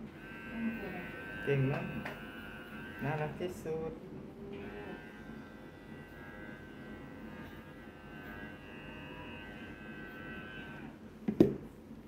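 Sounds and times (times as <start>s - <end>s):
electric hair trimmer whine: 0.0s - 3.9s, 4.5s - 11.0s.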